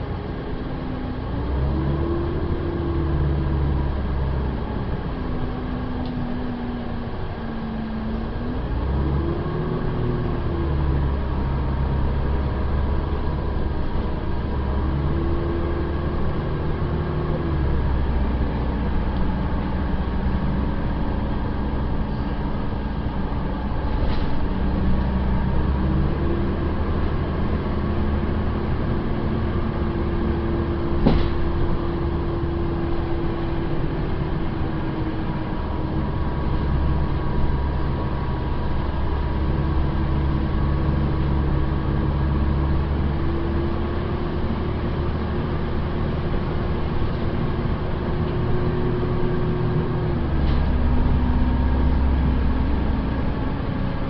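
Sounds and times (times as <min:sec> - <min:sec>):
bus engine drone: 0:00.0 - 0:54.0
road noise: 0:00.0 - 0:54.0.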